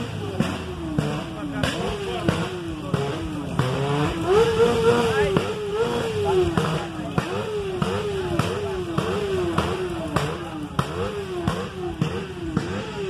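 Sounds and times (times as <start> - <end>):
engine revving in throttle blips: 0.0 - 13.0.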